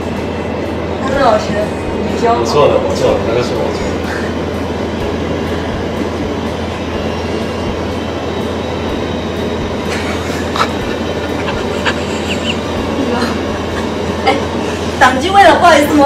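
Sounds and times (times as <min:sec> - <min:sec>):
extractor hood and ovens humming: 0:00.0 - 0:16.0.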